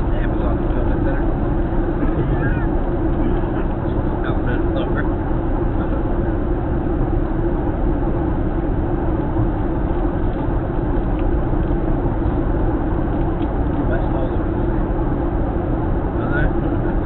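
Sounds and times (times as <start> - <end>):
airliner engine and airflow rumble: 0.0 - 17.0
constant cabin hum: 0.0 - 17.0.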